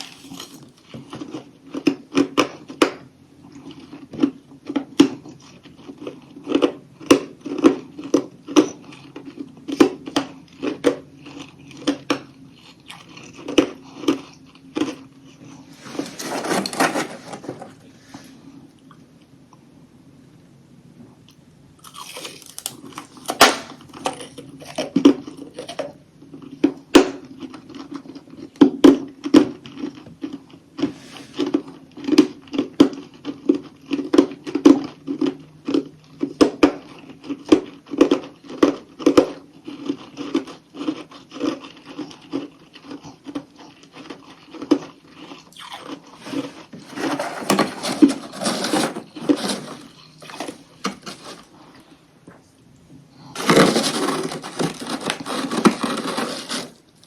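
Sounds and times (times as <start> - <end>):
crunching and chewing ice: 0.0 - 17.9, 21.8 - 52.0, 53.1 - 57.0.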